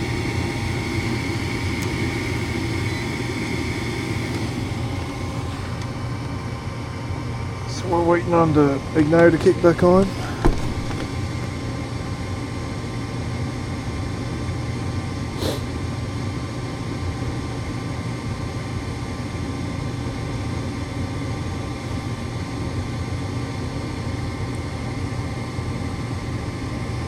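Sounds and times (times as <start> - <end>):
furnace motor humming: 0.0 - 27.0.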